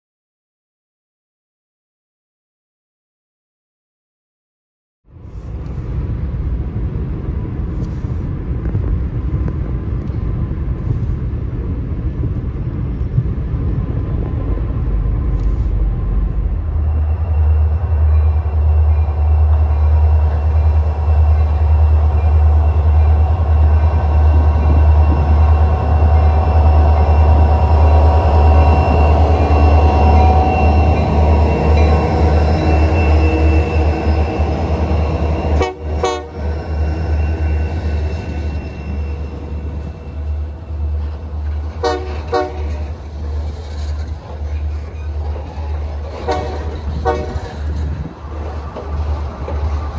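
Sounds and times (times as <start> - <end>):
diesel locomotives passing: 5.1 - 49.9.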